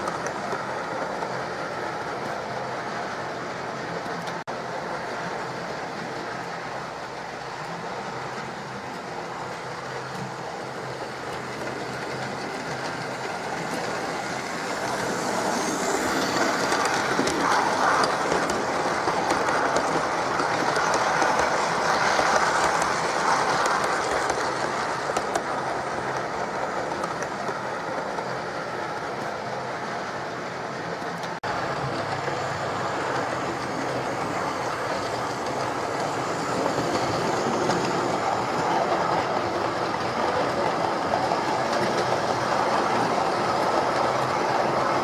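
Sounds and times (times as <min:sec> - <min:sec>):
model train whirring on track: 0:00.0 - 0:45.0.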